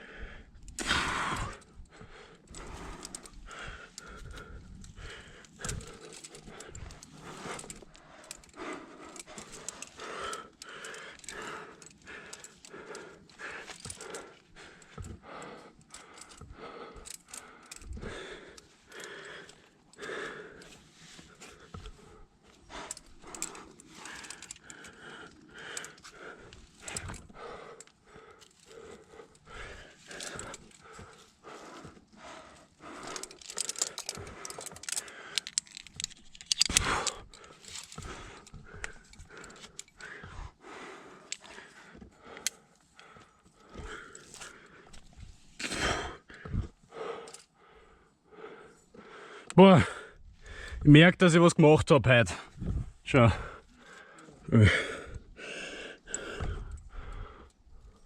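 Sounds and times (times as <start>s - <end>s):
person panting: 0.0s - 50.8s, 52.3s - 58.0s.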